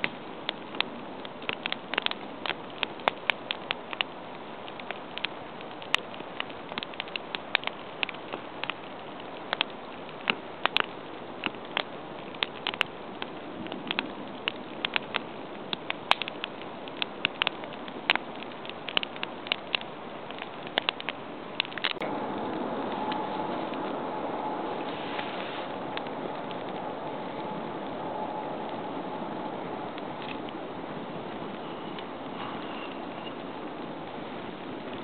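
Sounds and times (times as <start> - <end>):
campfire crackling and popping: 0.0 - 35.0
steady fire hiss: 0.0 - 35.0.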